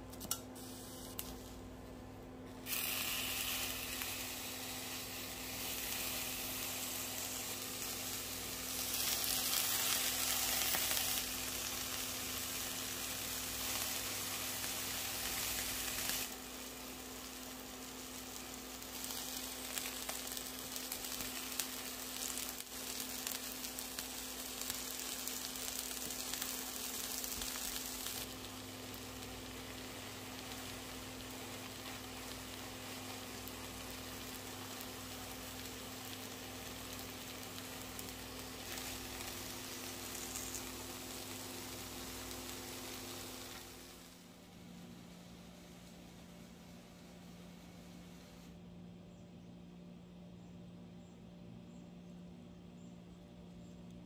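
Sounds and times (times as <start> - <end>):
food sizzling in a pan: 2.6 - 48.1.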